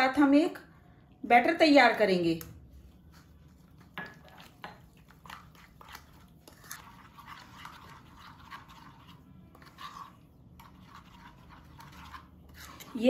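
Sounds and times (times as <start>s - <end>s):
spoon stirring batter in a bowl: 1.8s - 13.0s.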